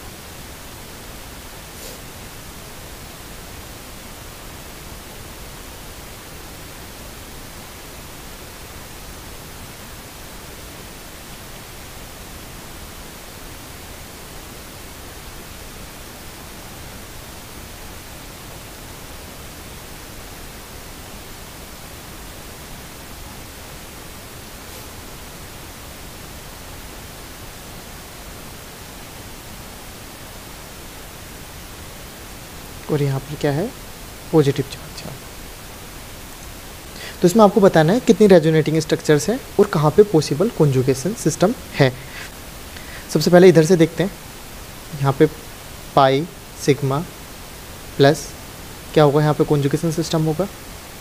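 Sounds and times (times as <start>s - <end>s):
microphone hiss: 0.0s - 51.0s.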